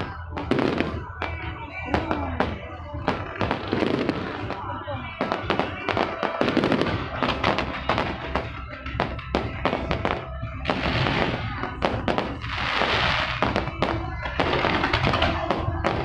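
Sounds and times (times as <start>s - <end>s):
fireworks bangs: 0.0s - 16.0s
fireworks hissing crackle: 0.0s - 16.0s.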